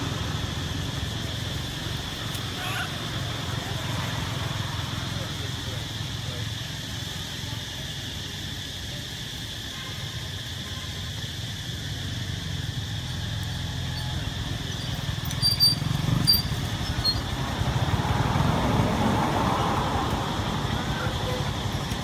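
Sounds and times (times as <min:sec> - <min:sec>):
high insect drone: 0:00.0 - 0:22.0
vehicle engine rumble: 0:00.0 - 0:22.0.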